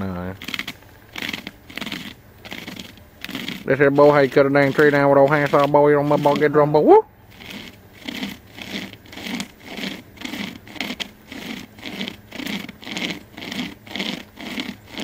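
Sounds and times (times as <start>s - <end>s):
hand chain saw rasping wood: 0.0s - 15.0s.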